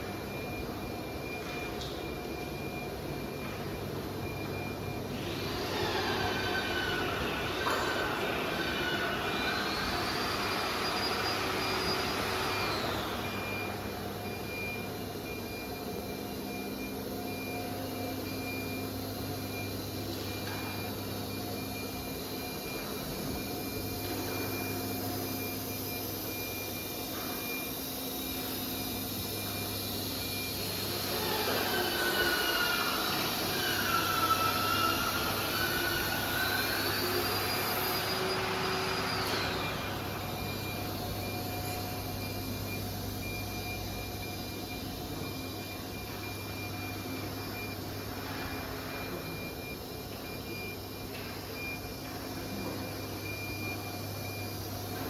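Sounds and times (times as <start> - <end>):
router machine hum and whine: 3.4 - 16.2, 17.3 - 55.0.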